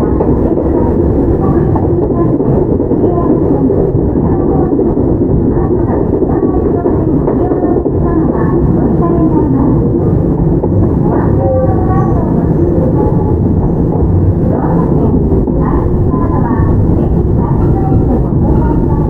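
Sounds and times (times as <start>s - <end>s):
train car-body noise: 0.0s - 19.0s
train wheels rumbling on rail: 0.0s - 19.0s.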